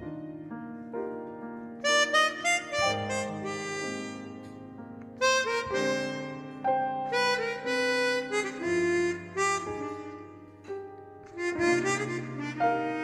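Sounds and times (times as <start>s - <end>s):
piano accompaniment: 0.0s - 13.0s
harmonica playing slow melody: 1.7s - 13.0s.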